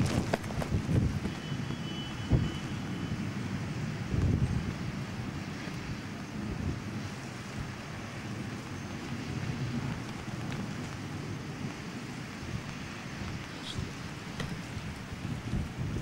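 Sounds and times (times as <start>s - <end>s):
steady rain: 0.0s - 16.0s
wind buffeting microphone: 0.0s - 16.0s.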